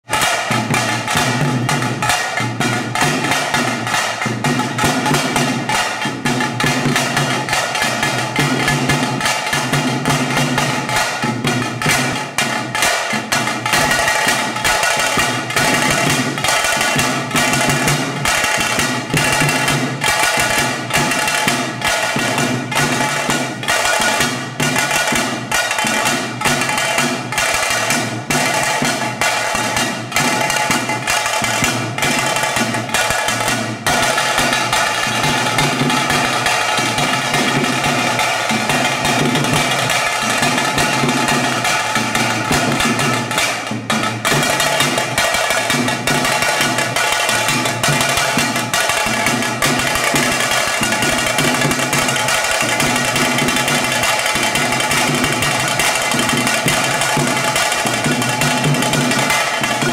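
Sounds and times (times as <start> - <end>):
drums beaten with sticks: 0.0 - 59.9.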